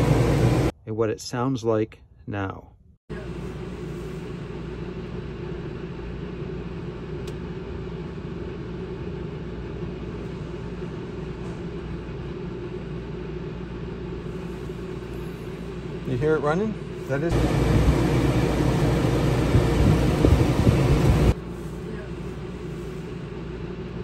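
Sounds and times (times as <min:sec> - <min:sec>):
air conditioner humming: 0:00.0 - 0:01.8, 0:03.1 - 0:24.0.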